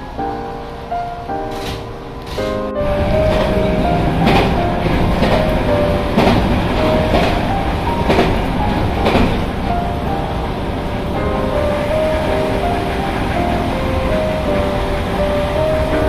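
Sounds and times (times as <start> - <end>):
train running rumble: 0.0 - 16.0
wheel clack over rail joints: 1.5 - 16.0.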